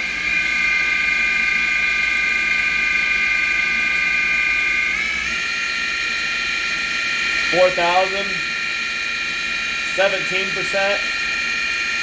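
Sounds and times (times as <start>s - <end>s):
lathe spindle whine: 0.0s - 12.0s.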